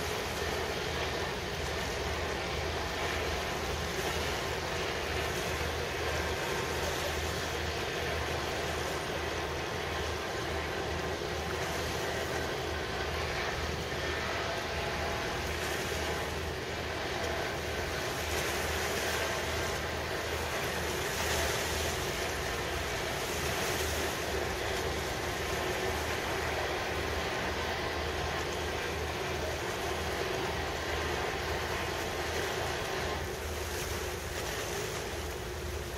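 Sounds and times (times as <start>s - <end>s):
choppy water: 0.0s - 35.9s
low continuous rumble: 0.0s - 35.9s
wind: 0.0s - 35.9s.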